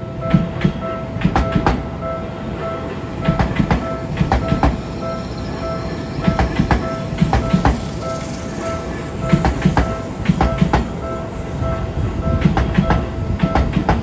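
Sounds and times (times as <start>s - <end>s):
level-crossing alarm ringing: 0.0s - 13.6s
train wheels clacking over rails: 0.3s - 2.0s, 2.9s - 14.0s.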